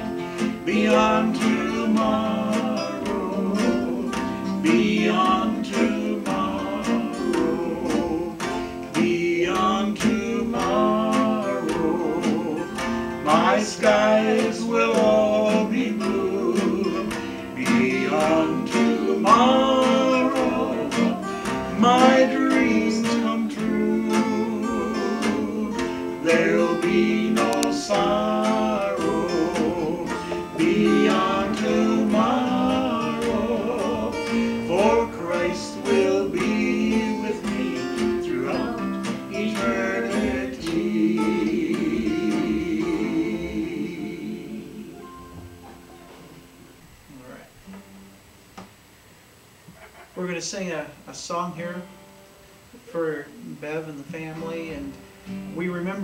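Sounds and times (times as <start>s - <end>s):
man and woman singing: 0.0s - 45.2s
acoustic guitar strumming: 0.0s - 46.9s, 47.6s - 48.5s, 51.7s - 56.0s.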